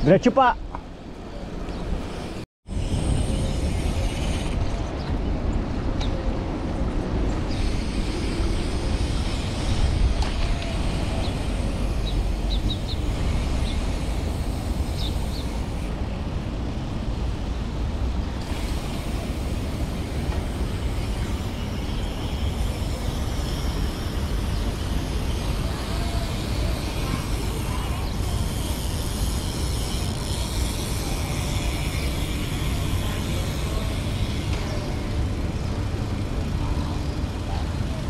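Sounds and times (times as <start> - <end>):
road noise: 0.0 - 38.0.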